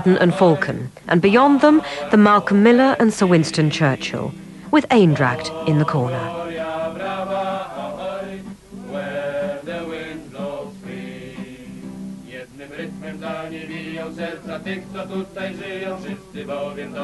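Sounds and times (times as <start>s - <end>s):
group singing: 0.0s - 17.0s
strummed acoustic guitar: 0.0s - 17.0s.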